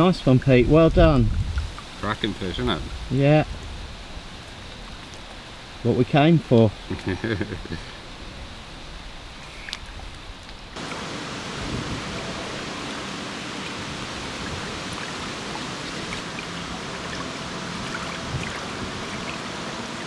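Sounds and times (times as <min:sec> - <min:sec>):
rain falling on lake: 0:00.0 - 0:20.0.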